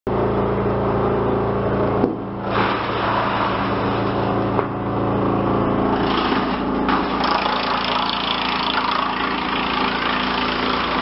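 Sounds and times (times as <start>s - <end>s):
wood chipper humming: 0.1s - 11.0s.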